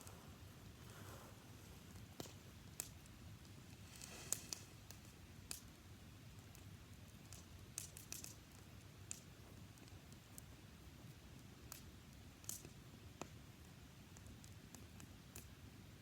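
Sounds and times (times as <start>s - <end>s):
faint campfire crackling: 0.0s - 16.0s.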